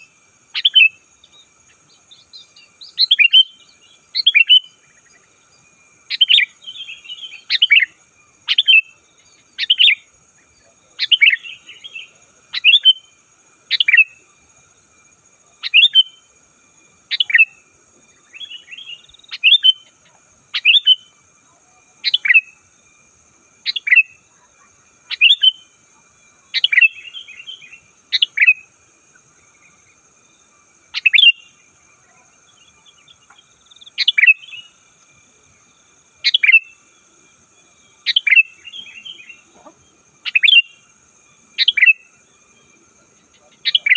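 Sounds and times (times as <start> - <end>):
bulbul singing: 0.0 - 43.9
faint high hum: 0.0 - 43.9.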